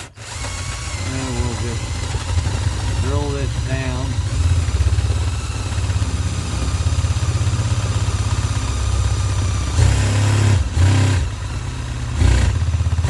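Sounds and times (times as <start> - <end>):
electric drill boring through plywood: 0.0 - 13.0.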